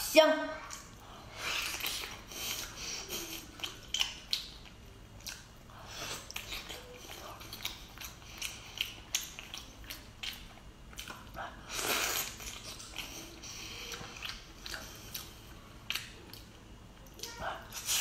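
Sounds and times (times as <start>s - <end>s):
woman chewing salmon: 1.4s - 16.9s.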